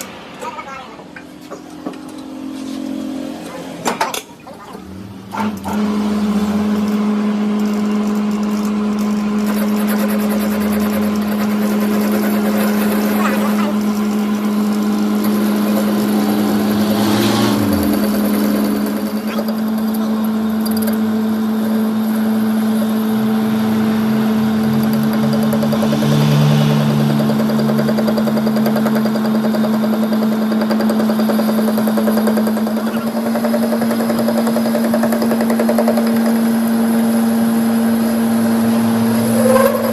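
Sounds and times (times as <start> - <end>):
workshop machinery humming: 0.0 - 39.9.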